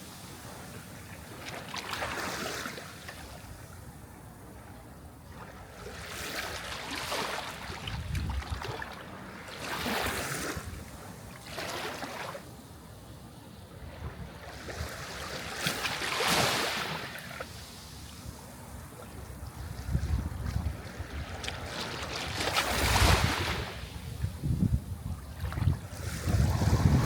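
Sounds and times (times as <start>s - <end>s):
sea waves washing ashore: 0.0s - 27.0s.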